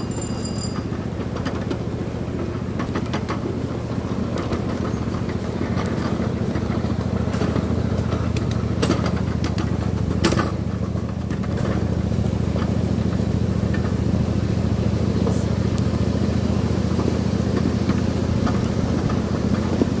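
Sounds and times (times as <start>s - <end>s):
low engine hum: 0.0s - 20.0s
sharp train clacks: 0.0s - 20.0s.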